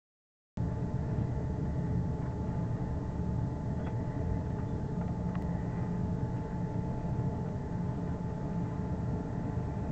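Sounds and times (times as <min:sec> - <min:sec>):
faint machinery tones: 0:00.6 - 0:09.9
ship engine rumble: 0:00.6 - 0:09.9.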